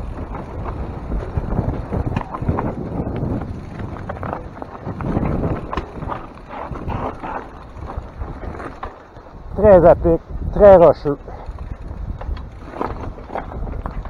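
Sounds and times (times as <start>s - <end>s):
bike clattering over rocks: 0.0s - 9.7s, 11.1s - 14.0s
wind buffeting microphone: 0.0s - 14.0s.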